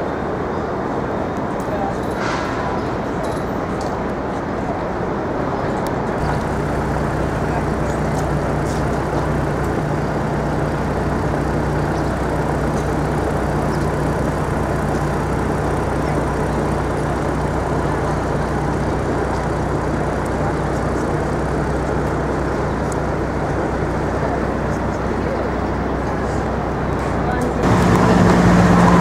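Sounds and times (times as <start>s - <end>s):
city street noise: 0.0s - 29.0s
heavy engine humming: 0.0s - 29.0s.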